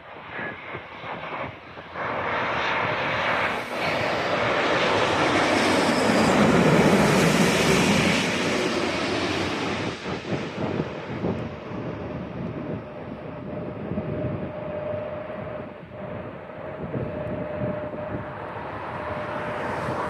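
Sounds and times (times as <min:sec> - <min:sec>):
jet engine landing: 0:00.0 - 0:20.0.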